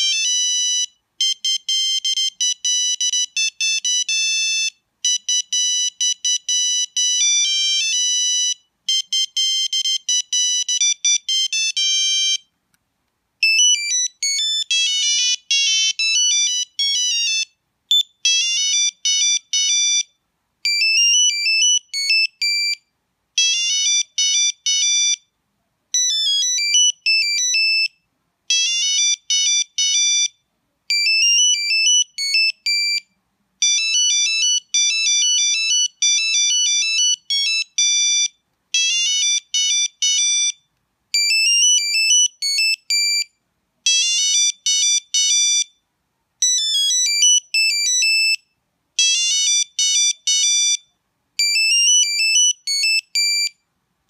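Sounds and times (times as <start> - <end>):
mobile phone ringtone beeping melodies: 0.0 - 12.5, 13.4 - 25.3, 26.0 - 45.8, 46.4 - 53.6.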